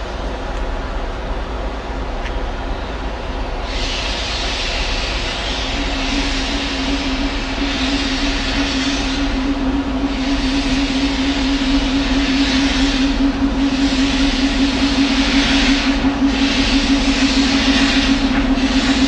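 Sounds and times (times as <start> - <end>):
locomotive roar: 0.0 - 19.0
steady hum: 0.0 - 19.0.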